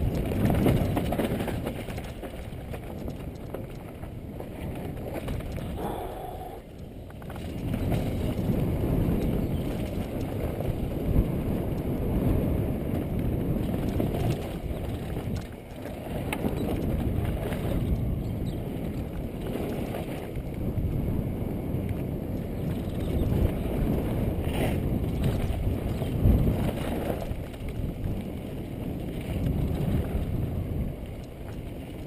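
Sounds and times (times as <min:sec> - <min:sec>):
bike tyres rumbling on gravel: 0:00.0 - 0:32.0.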